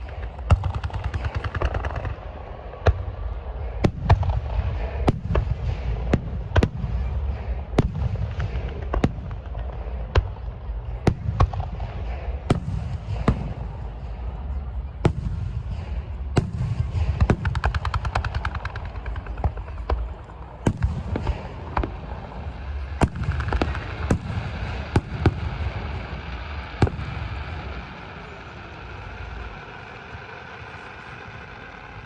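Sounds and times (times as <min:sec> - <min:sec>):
fireworks crackling bangs: 0:00.0 - 0:32.0
low rolling rumble: 0:00.0 - 0:32.0.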